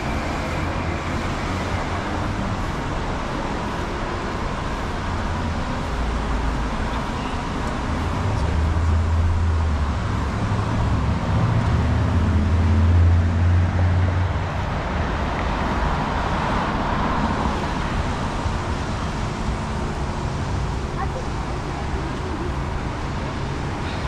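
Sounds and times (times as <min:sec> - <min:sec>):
passing traffic rushing: 0:00.0 - 0:24.0
vehicle engine humming: 0:00.0 - 0:24.0.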